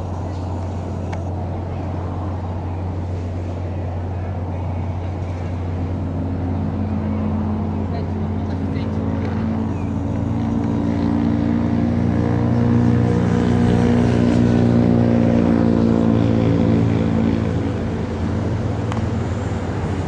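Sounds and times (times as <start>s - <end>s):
passing engine drone: 0.0s - 20.0s.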